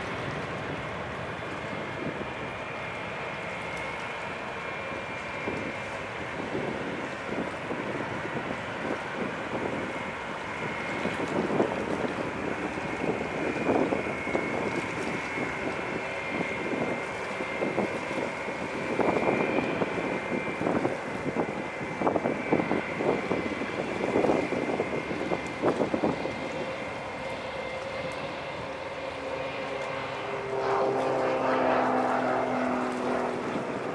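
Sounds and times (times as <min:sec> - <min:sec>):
jet engines roaring: 0:00.0 - 0:33.9
multi-tone hum: 0:00.0 - 0:33.9.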